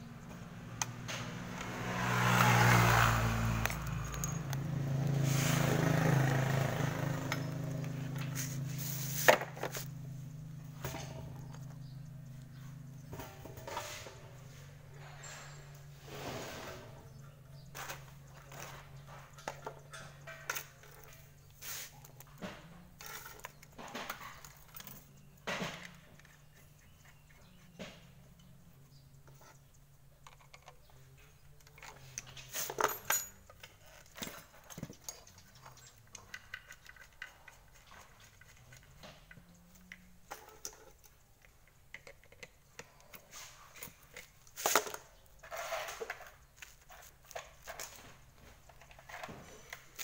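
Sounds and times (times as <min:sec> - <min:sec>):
metal tools clinking and knocking: 0:02.3 - 0:05.2, 0:06.5 - 0:15.9, 0:17.1 - 0:50.0.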